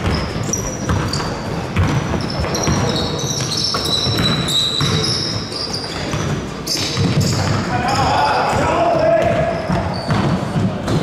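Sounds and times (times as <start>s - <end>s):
basketball bouncing: 0.0s - 11.0s
sneakers squeaking: 0.0s - 11.0s.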